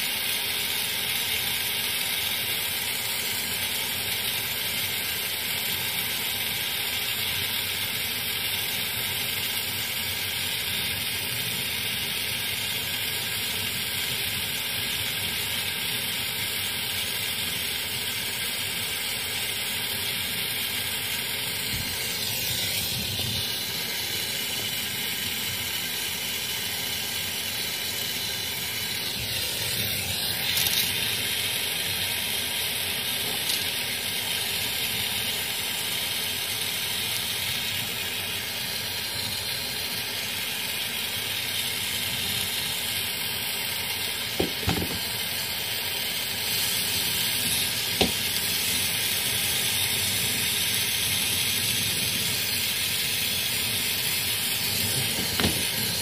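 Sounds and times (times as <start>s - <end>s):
gas torch flame hissing: 0.0s - 56.0s.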